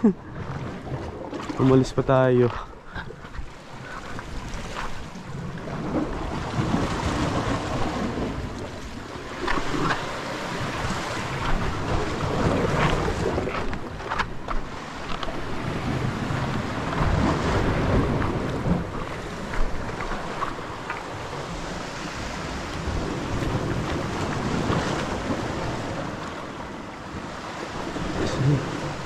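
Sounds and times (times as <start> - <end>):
sea waves: 0.0 - 29.0
wind buffeting microphone: 0.2 - 29.0.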